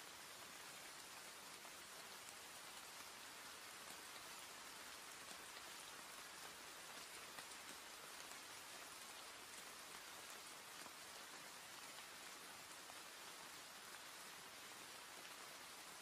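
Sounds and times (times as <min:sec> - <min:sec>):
raindrops pattering: 0:00.0 - 0:16.0
steady rain falling: 0:00.0 - 0:16.0.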